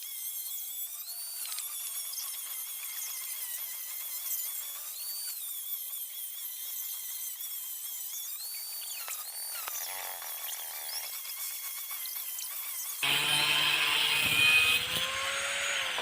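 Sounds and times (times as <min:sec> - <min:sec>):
power tool whining: 0:00.0 - 0:16.0.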